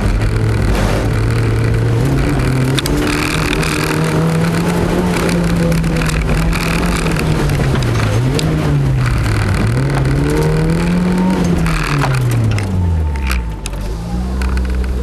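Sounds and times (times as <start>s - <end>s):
car engine from inside cabin: 0.0s - 15.0s
road and tyre noise: 0.0s - 15.0s.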